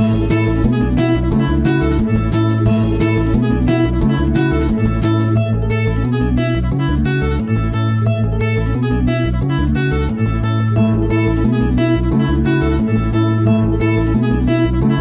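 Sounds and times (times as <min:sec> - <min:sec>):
acoustic guitar background music: 0:00.0 - 0:15.0.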